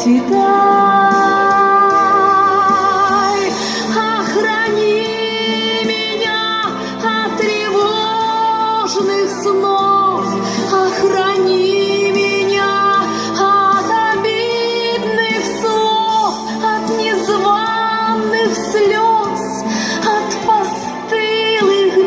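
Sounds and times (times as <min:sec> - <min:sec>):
instrumental accompaniment: 0:00.0 - 0:22.0
woman singing with vibrato: 0:00.0 - 0:22.0.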